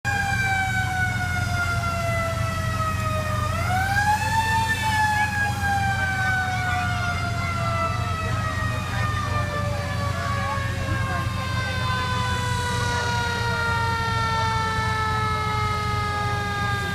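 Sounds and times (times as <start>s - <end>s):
fire engine siren: 0.0s - 16.9s
truck engine rumble: 0.0s - 16.9s.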